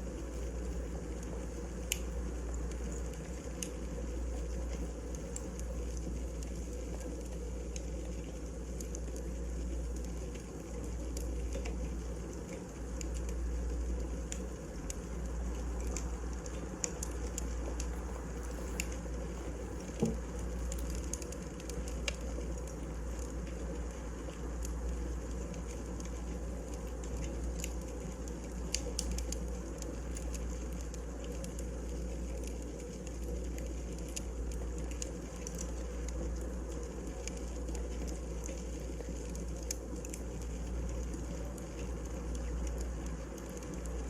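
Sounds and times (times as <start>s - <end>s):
fire crackles: 0.0s - 44.0s
wood fire burning: 0.0s - 44.0s.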